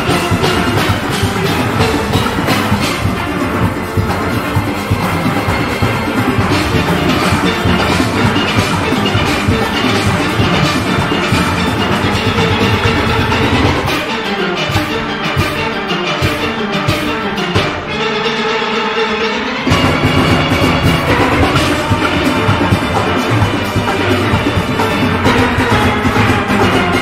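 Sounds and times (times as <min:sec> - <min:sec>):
steel orchestra playing: 0:00.0 - 0:27.0.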